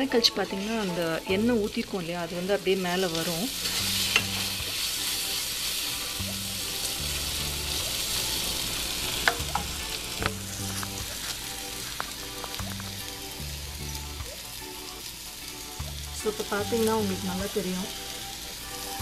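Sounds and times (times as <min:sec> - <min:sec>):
okra sizzling in oil: 0:00.0 - 0:19.0.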